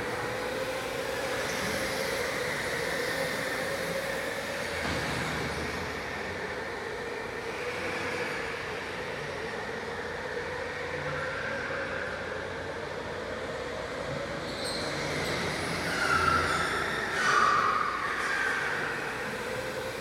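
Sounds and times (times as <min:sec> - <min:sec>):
electric go-kart motors whining: 0:00.0 - 0:20.0.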